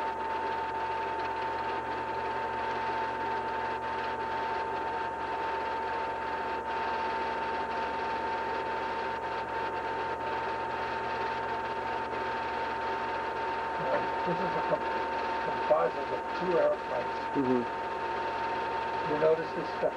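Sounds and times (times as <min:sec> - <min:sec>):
film projector whirring: 0:00.0 - 0:19.9.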